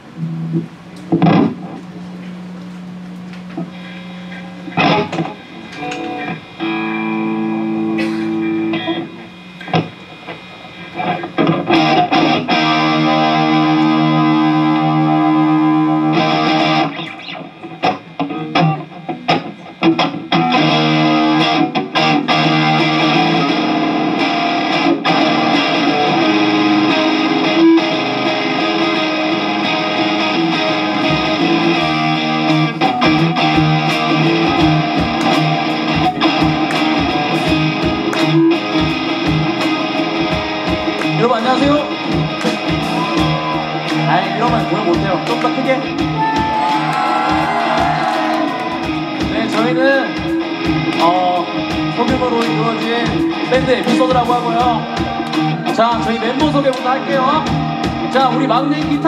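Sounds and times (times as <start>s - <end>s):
distorted electric guitar chords: 0.0s - 59.0s.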